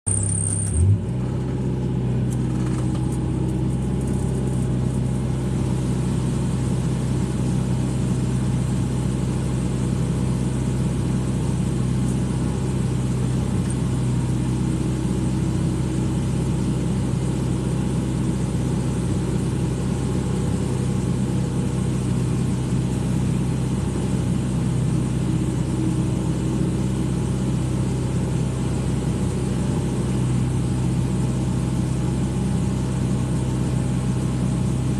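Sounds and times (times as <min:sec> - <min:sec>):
excavator diesel engine humming: 0:00.1 - 0:34.9.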